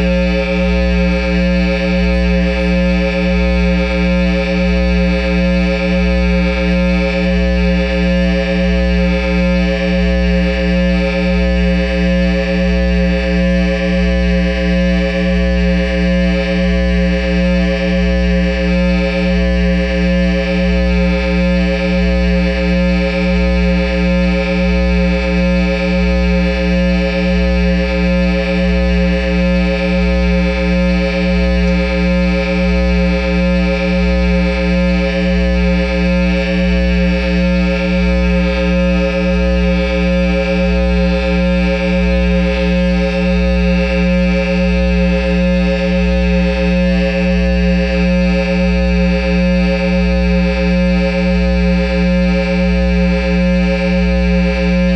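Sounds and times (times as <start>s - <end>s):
deep electronic drone: 0.0s - 54.9s.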